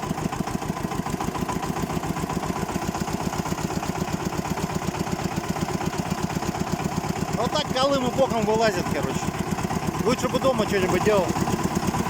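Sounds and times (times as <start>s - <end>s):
engine knock: 0.0s - 12.0s
tractor diesel engine running: 0.0s - 12.0s.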